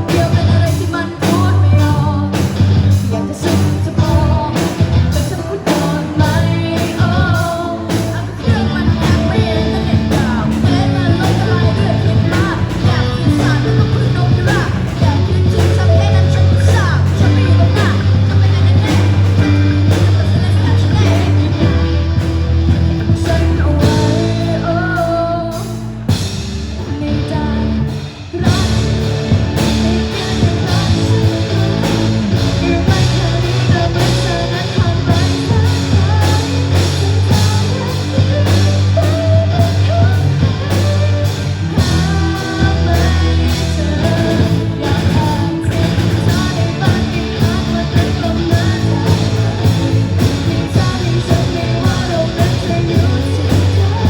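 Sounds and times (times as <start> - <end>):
pop-rock song with singing: 0.0 - 54.0.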